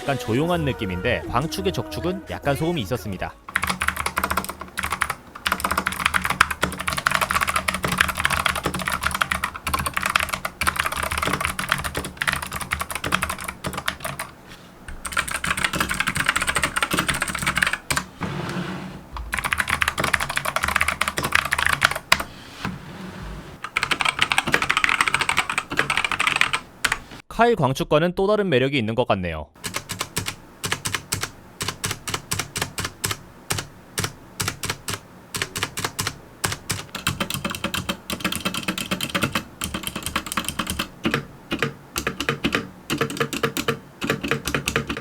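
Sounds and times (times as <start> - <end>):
fast keyboard typing: 3.5 - 18.2, 19.2 - 22.3, 23.6 - 27.2, 29.6 - 45.0.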